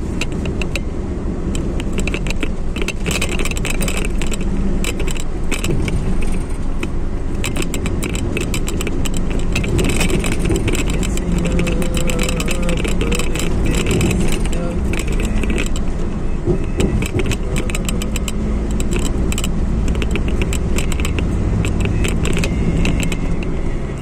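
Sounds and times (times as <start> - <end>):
car engine and road rumble: 0.0 - 24.0
clinking rattles: 1.6 - 23.6.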